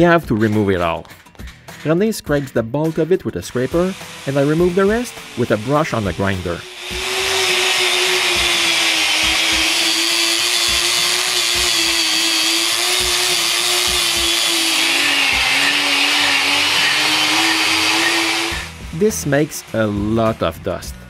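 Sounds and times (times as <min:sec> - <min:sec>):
angle grinder wire brush scouring: 0:03.4 - 0:20.6.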